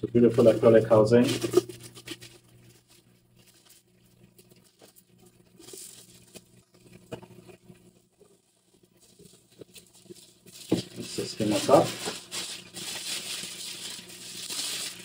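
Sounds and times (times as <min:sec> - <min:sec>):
packaging rustling: 0:00.3 - 0:06.5, 0:09.0 - 0:15.0.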